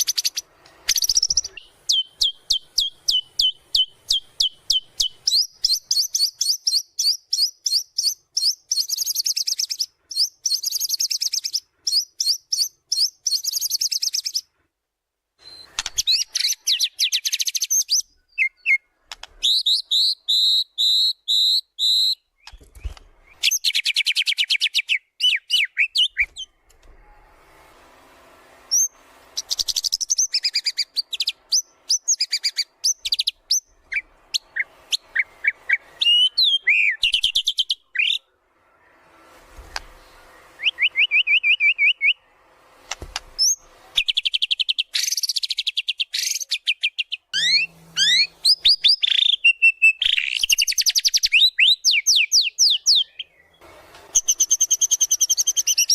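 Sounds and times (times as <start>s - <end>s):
songbird singing trills and whistles: 0.0s - 14.5s, 15.4s - 26.5s, 28.7s - 38.3s, 40.4s - 42.3s, 43.4s - 55.9s.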